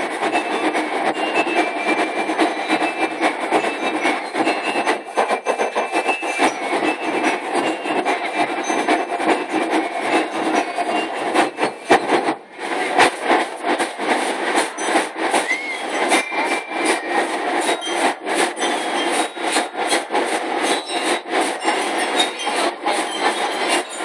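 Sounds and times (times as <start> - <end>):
marching drums: 0.0 - 24.0.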